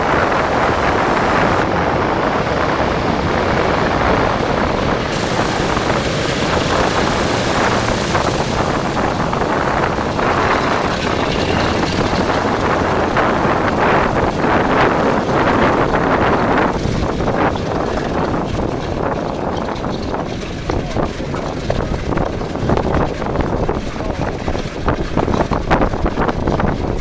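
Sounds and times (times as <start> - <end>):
radial aircraft engines running: 0.0 - 27.0
wind buffeting microphone: 0.0 - 27.0.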